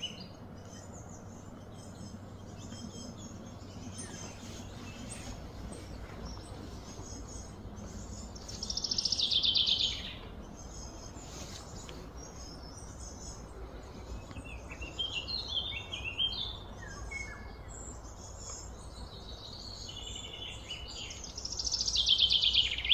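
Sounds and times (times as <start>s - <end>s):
birds singing trills and chirps: 0.0s - 22.9s
low background hum: 0.0s - 22.9s.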